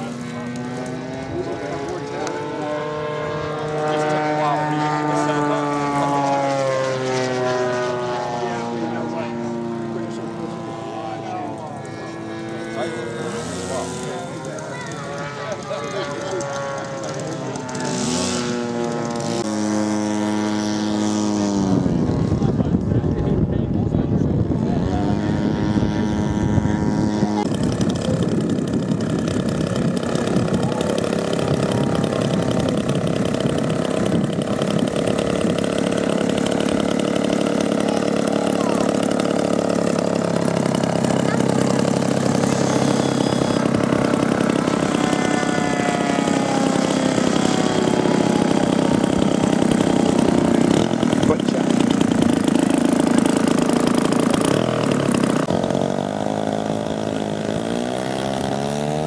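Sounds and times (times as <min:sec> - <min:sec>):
model plane engine idling: 0:00.0 - 0:59.0.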